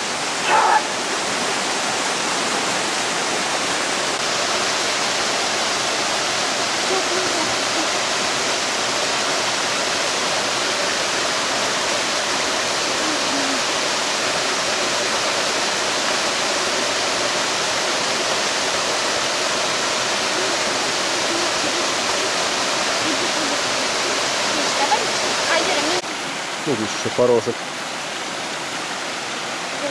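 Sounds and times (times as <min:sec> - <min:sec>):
stream water rushing: 0:00.0 - 0:29.9.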